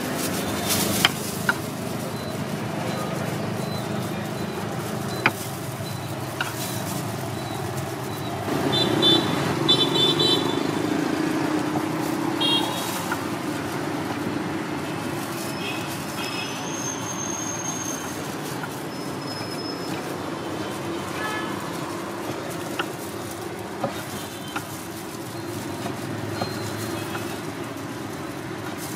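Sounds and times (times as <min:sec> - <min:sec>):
street traffic passing: 0:00.0 - 0:28.9.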